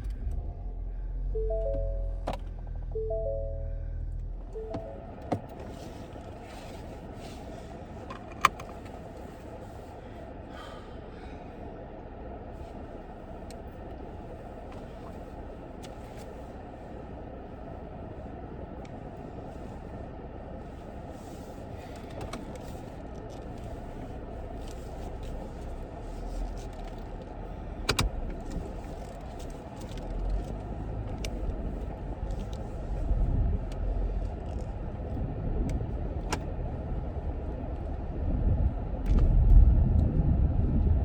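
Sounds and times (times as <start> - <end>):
car rumble while driving: 0.0 - 41.0.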